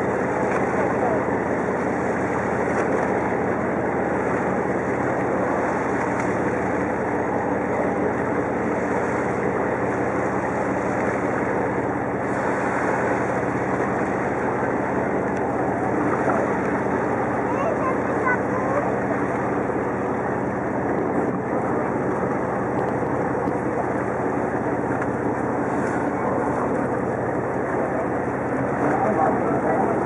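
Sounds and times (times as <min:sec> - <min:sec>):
boat engine running: 0:00.0 - 0:30.0
wind and water rushing: 0:00.0 - 0:30.0.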